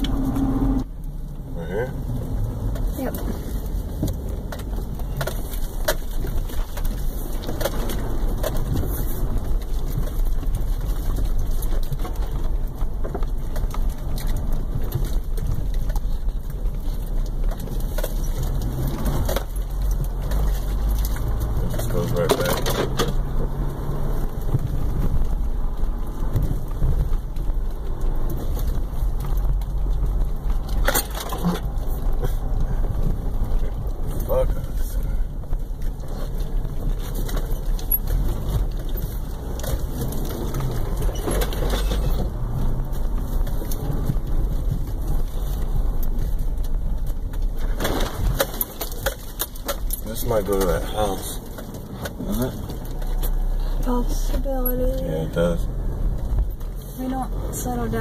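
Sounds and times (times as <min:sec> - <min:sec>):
car jolting over rough ground: 0:00.0 - 0:58.0
branches scraping car body: 0:02.3 - 0:58.0.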